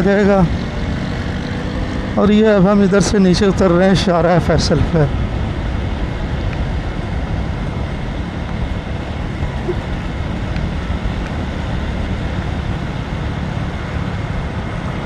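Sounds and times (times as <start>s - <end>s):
motorcycle engine: 0.0s - 15.0s
wind rushing over microphone: 0.0s - 15.0s.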